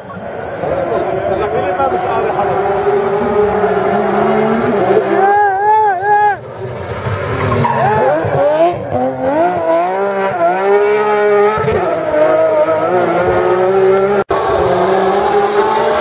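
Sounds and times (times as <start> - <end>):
car engine revving: 0.1 - 5.7, 6.4 - 16.0.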